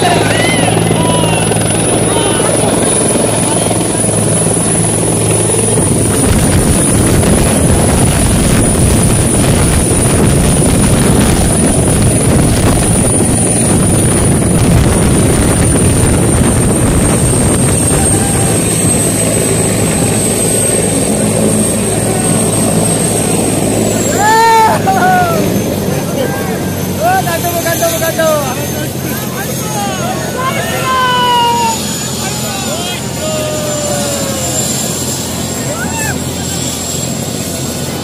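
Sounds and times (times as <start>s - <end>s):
helicopter rotor and engine: 0.0s - 38.0s
high turbine whine: 0.0s - 38.0s.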